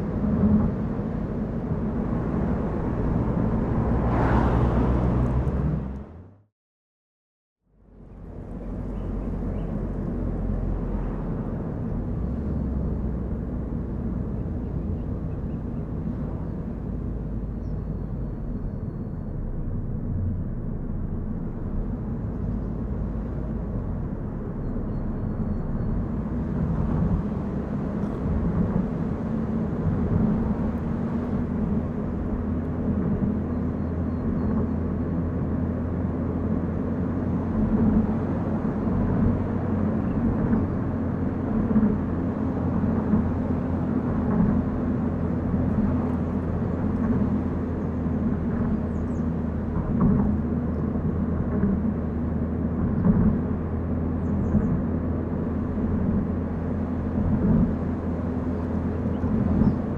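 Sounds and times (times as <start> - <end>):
car engine and tyre rumble: 0.0 - 6.5, 7.6 - 59.9.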